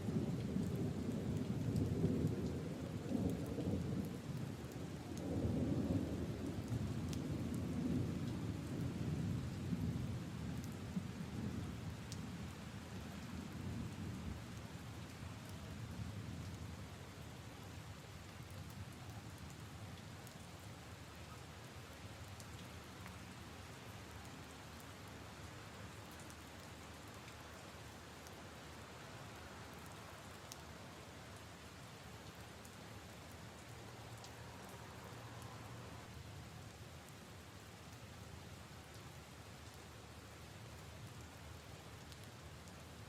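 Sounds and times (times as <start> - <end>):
rain on leaves and puddles: 0.0 - 43.0.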